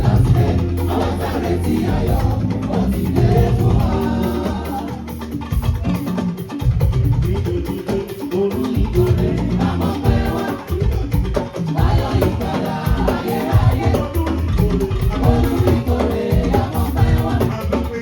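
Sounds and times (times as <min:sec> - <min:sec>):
choir singing: 0:00.0 - 0:05.9, 0:08.5 - 0:18.0
drums: 0:00.0 - 0:18.0.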